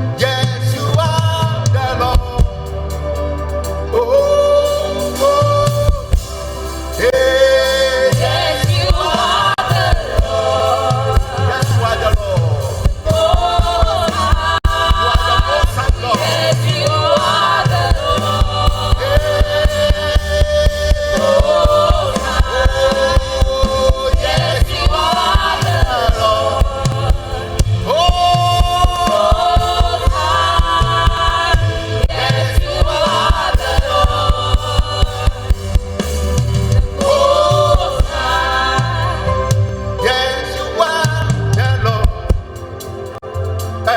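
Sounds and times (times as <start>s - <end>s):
band with drum and bass beat: 0.0s - 40.1s, 40.9s - 43.9s
voices singing together: 0.0s - 43.9s.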